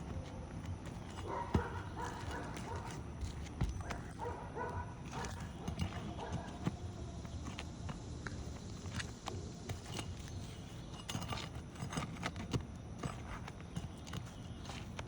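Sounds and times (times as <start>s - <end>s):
knocks and scrapes on a roof: 0.0s - 7.7s, 8.9s - 15.0s.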